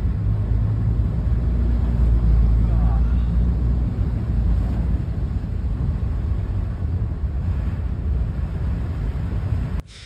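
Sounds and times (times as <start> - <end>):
car driving through floodwater: 0.0 - 9.9.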